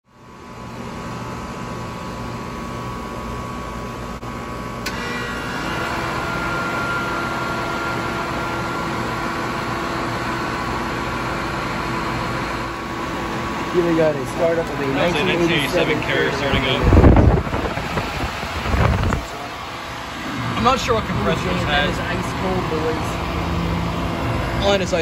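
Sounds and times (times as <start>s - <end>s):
fan and compressor running: 0.0s - 25.0s
air conditioner hum: 0.1s - 25.0s.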